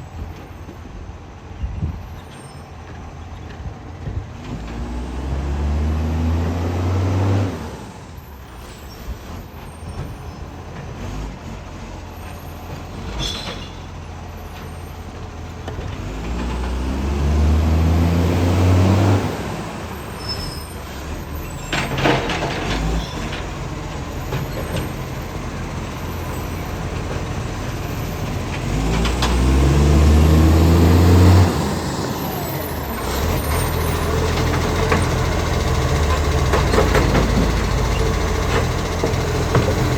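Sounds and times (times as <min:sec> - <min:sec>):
diesel truck engine revving: 0:04.4 - 0:09.4, 0:10.7 - 0:13.3, 0:15.0 - 0:39.9.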